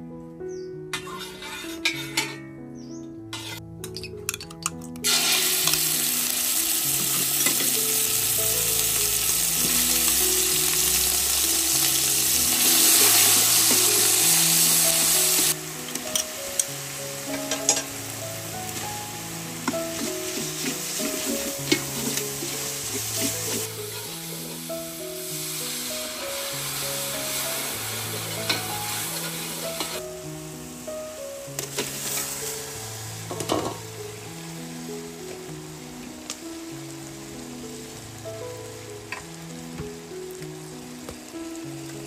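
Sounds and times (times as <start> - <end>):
paste sizzling in hot oil: 1.0 - 2.4, 3.3 - 4.1, 5.0 - 42.0.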